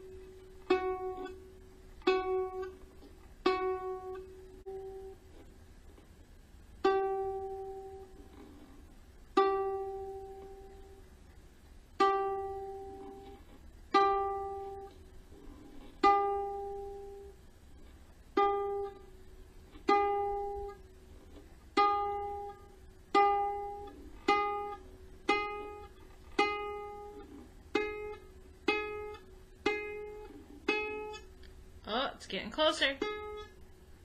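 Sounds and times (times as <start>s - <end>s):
ukulele string plucked: 0.0s - 5.4s, 6.8s - 8.7s, 9.4s - 11.0s, 12.0s - 17.4s, 18.4s - 31.5s.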